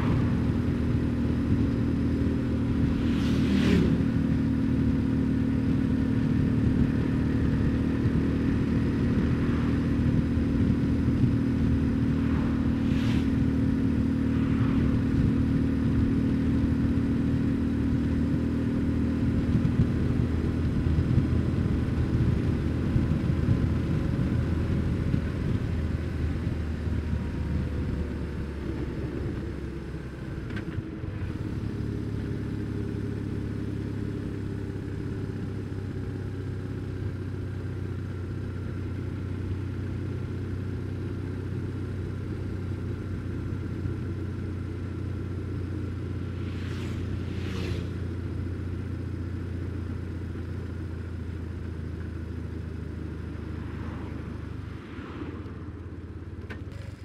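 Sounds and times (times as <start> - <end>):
motorcycle engine running: 0.0 - 54.8.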